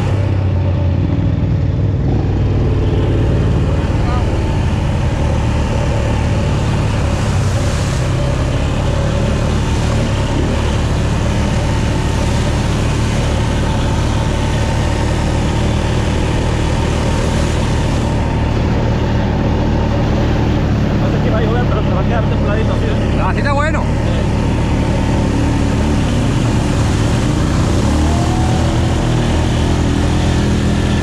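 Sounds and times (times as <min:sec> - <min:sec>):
atv engine running: 0:00.0 - 0:31.0.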